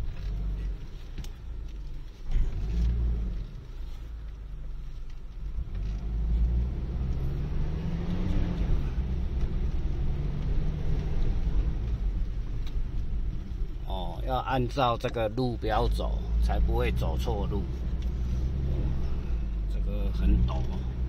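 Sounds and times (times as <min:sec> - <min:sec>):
car engine under load: 0:00.0 - 0:21.0
road rumble: 0:00.0 - 0:21.0.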